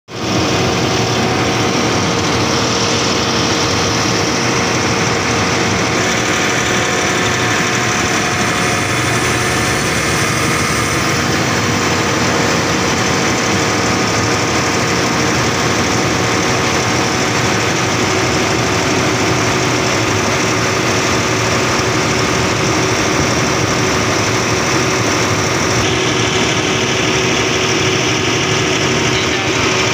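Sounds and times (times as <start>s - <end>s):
diesel generator running: 0.1s - 29.9s.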